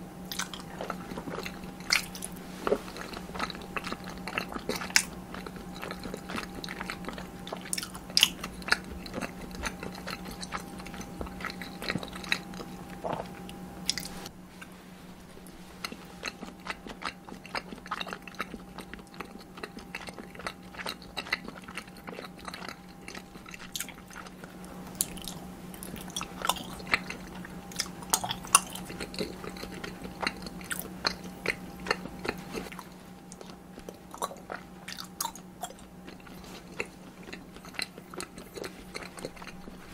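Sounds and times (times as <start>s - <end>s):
steady low hum: 0.0s - 39.9s
crunchy chewing and biting: 0.2s - 14.8s, 15.4s - 39.9s.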